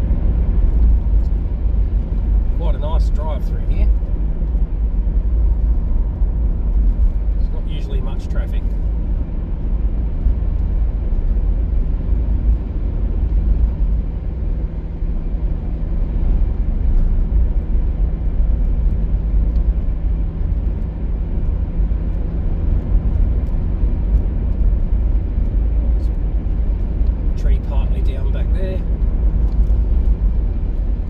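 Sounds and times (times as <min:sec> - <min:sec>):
car engine and tyre rumble: 0:00.0 - 0:31.0.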